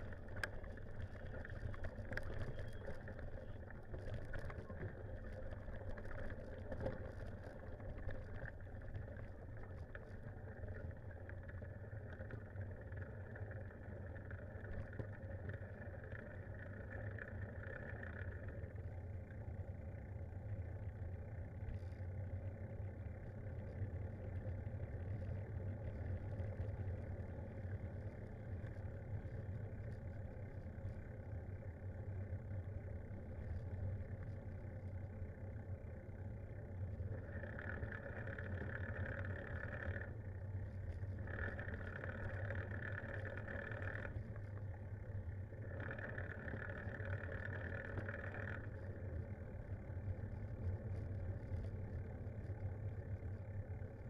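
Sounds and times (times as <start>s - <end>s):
bicycle tyres rolling on road: 0.0s - 54.0s.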